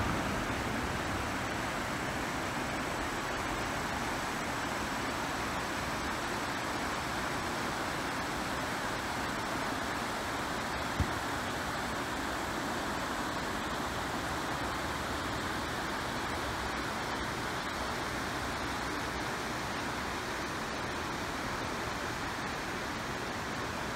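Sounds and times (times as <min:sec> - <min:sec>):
river rushing over rocks: 0:00.0 - 0:23.9.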